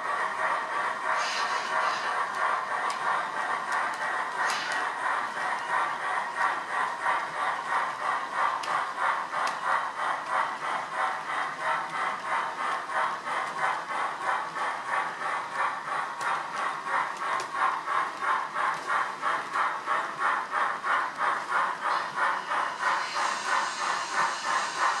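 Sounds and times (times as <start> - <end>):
model steam locomotive chuffs: 0.0 - 25.0.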